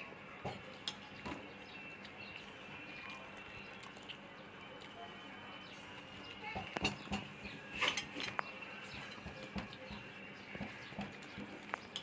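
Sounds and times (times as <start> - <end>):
person chewing rice: 0.6 - 6.4, 8.0 - 12.0.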